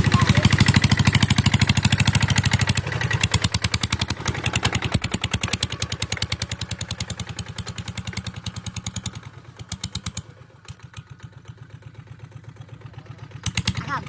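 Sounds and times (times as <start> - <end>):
diesel tractor engine puttering: 0.0 - 14.0.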